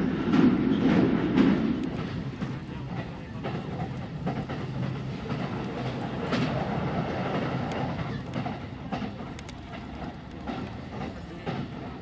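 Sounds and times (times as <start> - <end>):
train wheels rumbling on rail: 0.0 - 12.0
wheels clicking over track: 0.3 - 12.0.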